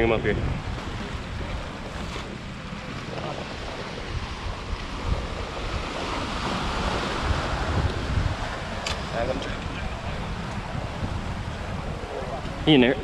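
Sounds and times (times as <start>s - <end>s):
waves washing: 0.0s - 13.0s
wind buffeting microphone: 0.0s - 13.0s.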